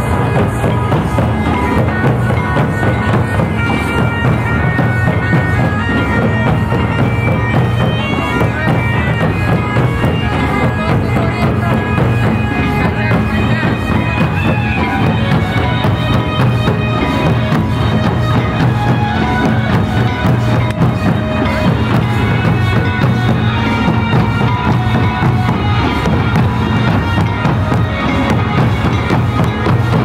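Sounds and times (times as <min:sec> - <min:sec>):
barrel drums beating: 0:00.0 - 0:30.0
reedy wind instrument melody: 0:00.0 - 0:30.0.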